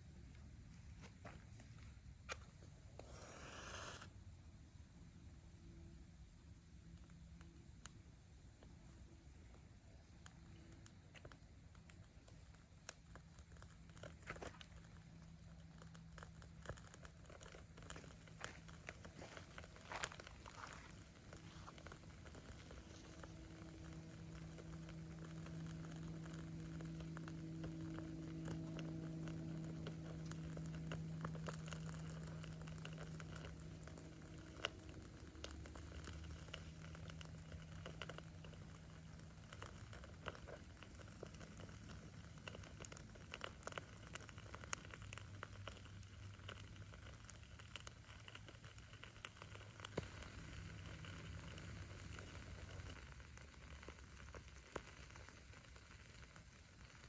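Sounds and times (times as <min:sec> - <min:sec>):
low steady hum: 0:00.0 - 0:57.0
wood fire crackling: 0:00.1 - 0:04.1, 0:06.3 - 0:57.0
firewood popping: 0:10.2 - 0:57.0.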